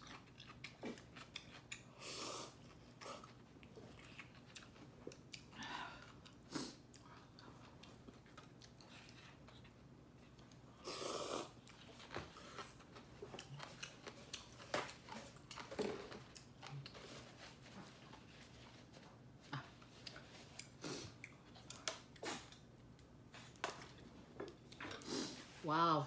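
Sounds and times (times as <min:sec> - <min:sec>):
person chewing: 0:00.0 - 0:17.0, 0:18.8 - 0:25.4.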